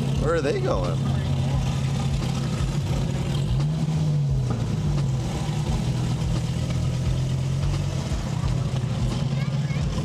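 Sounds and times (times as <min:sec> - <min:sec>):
car engine exhaust drone: 0:00.0 - 0:10.0.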